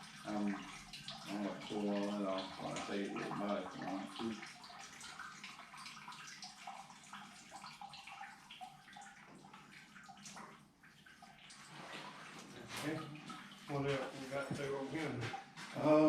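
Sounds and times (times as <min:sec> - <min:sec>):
liquid trickling into bucket: 0:00.0 - 0:16.0.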